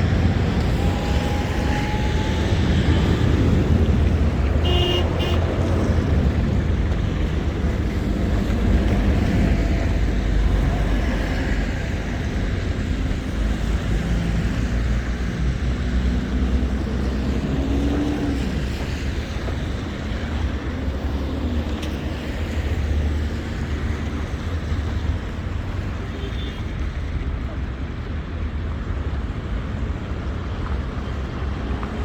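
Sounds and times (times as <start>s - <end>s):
vehicles passing: 0.0s - 32.0s.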